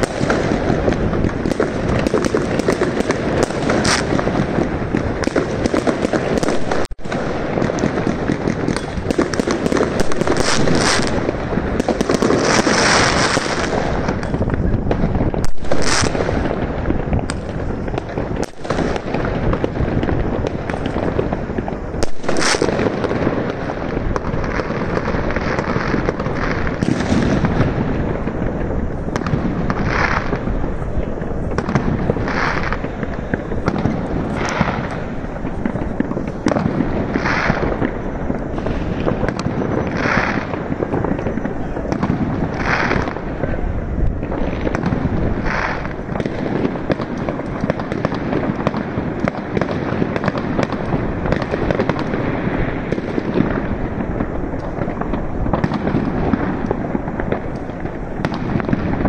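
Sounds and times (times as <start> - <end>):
fireworks bangs: 0.0 - 59.0
fireworks crackling and popping: 0.0 - 59.0.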